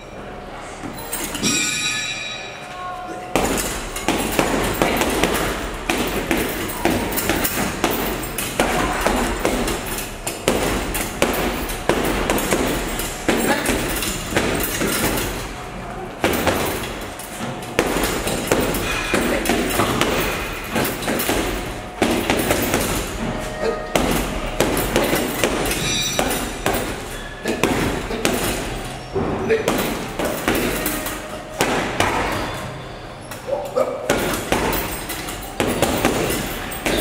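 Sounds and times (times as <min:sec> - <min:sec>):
punches thudding on heavy bag: 0:03.3 - 0:15.5, 0:16.2 - 0:32.7, 0:34.0 - 0:37.0.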